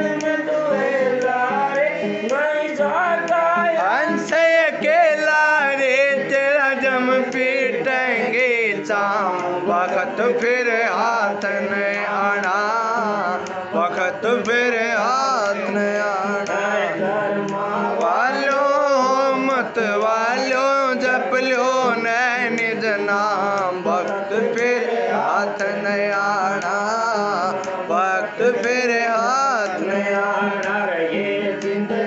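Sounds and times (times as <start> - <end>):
man singing a hymn: 0.0 - 32.0.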